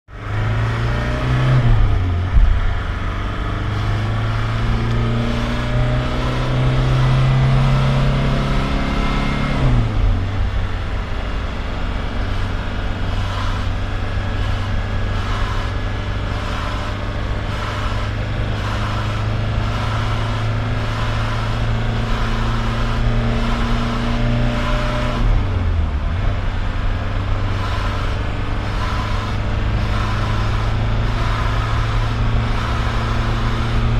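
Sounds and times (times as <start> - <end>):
diesel engine revving and idling: 0.1 - 33.9.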